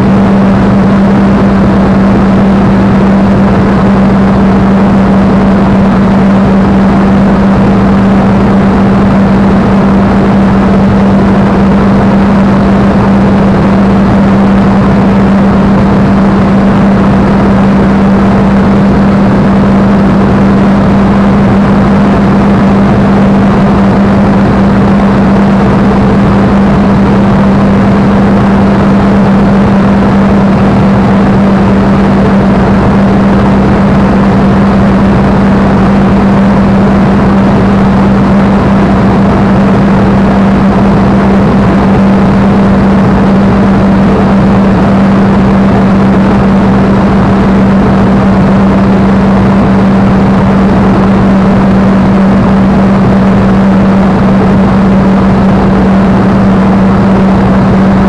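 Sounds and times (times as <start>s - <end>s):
aircraft piston engine roar: 0.0s - 58.0s
airflow noise: 0.0s - 58.0s.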